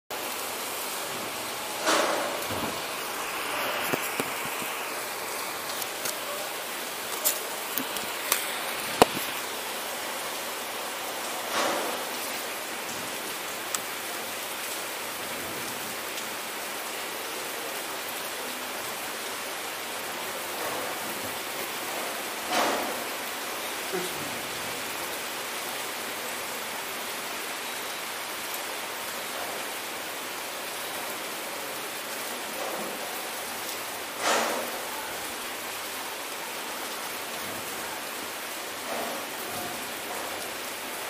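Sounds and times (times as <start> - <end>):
rain falling: 0.1 - 41.0.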